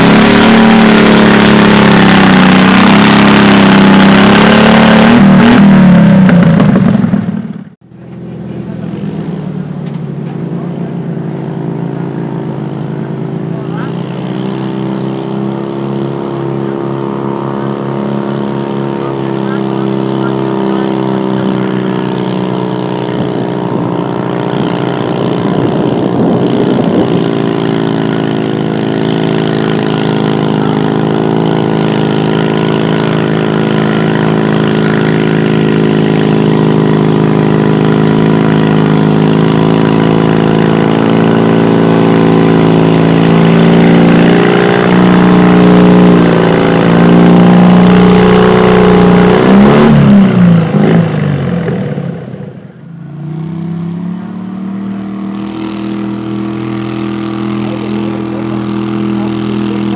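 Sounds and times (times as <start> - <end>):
tractor engine running under load: 0.0 - 53.4, 54.0 - 59.9.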